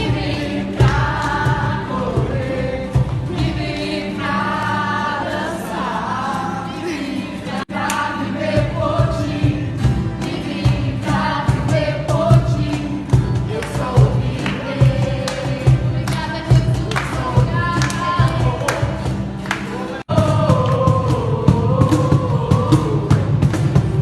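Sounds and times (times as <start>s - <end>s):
choir singing gospel song: 0.0s - 24.0s.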